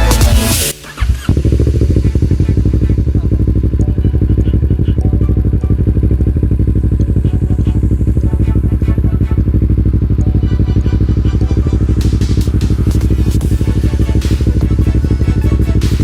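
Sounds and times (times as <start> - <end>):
motorcycle engine idling: 1.2 - 16.0.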